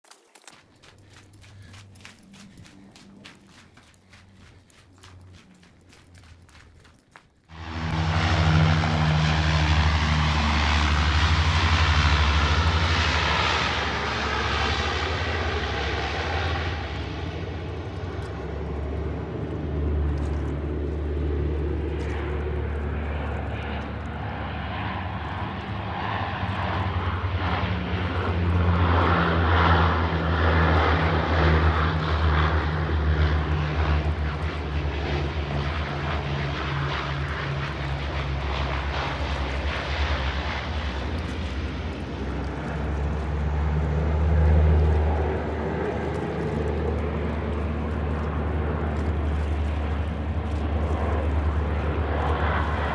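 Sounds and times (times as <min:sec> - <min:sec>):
propeller engines droning: 0:00.1 - 0:52.9.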